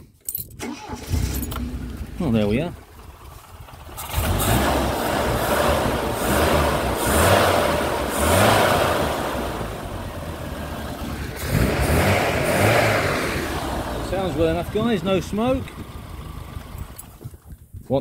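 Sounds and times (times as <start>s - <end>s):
car engine revving: 0.6s - 17.1s.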